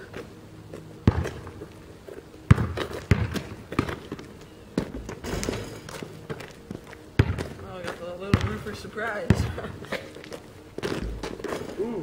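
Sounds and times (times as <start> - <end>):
basketball bouncing on asphalt: 0.0 - 11.7.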